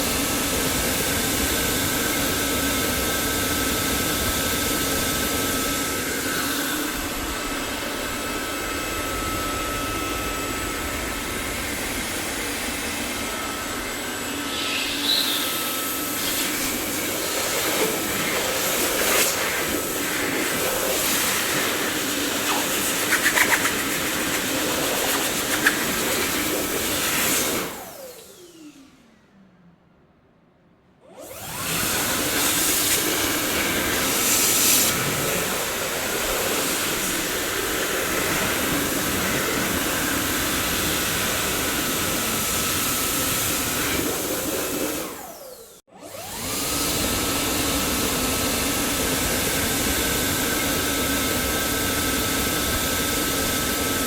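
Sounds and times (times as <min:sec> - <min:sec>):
vacuum cleaner running: 0:00.0 - 0:29.3, 0:31.0 - 0:54.0.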